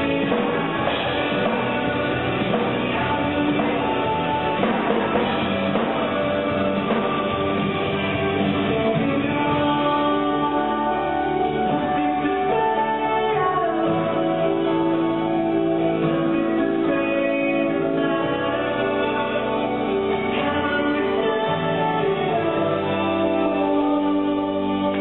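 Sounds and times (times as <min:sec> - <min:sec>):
drum kit playing: 0:00.0 - 0:25.0
guitar: 0:00.0 - 0:25.0
pop song singing: 0:00.0 - 0:25.0.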